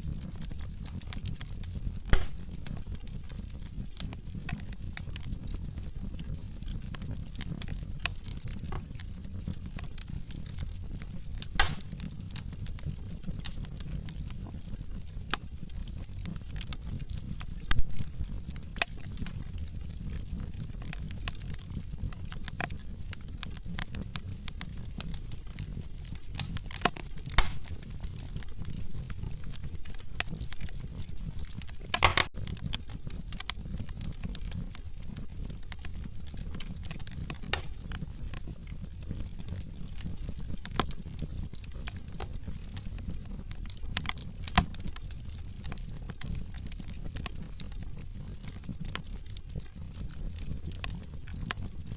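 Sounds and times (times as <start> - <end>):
wood fire crackling: 0.0 - 51.9
sharp pops of burning logs: 0.2 - 51.8.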